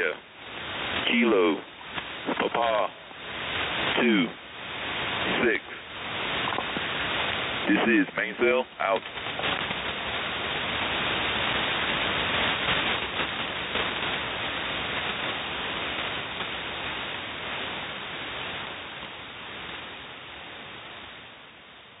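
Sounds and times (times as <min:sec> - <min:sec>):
faint crackles: 0:00.0 - 0:22.0
radio static and hiss: 0:00.0 - 0:22.0.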